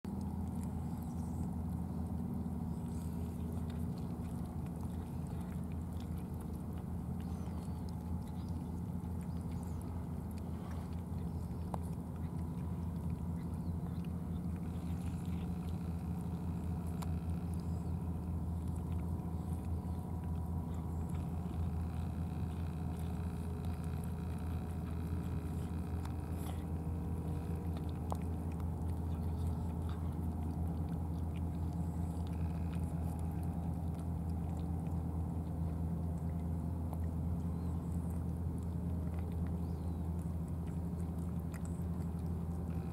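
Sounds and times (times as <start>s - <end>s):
cats chewing wet food: 0.1s - 42.9s
low hum: 0.1s - 42.9s.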